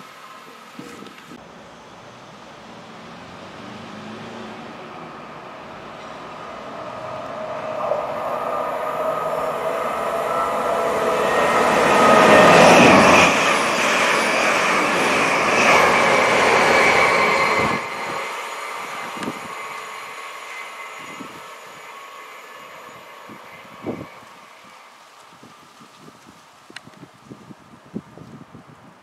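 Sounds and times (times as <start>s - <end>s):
train passing through station: 0.0s - 29.0s.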